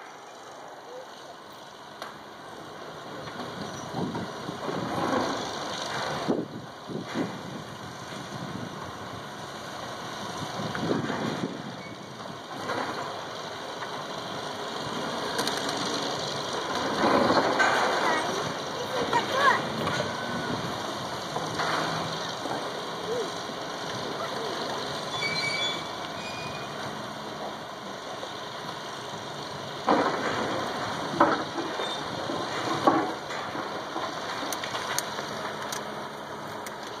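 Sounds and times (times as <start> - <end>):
diesel engine running: 0.0 - 37.0
machinery scraping and crunching: 0.0 - 37.0.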